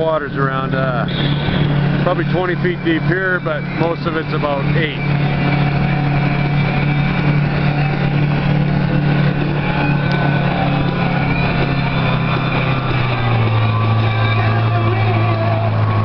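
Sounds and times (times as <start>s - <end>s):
jet ski engine running: 0.0s - 16.0s.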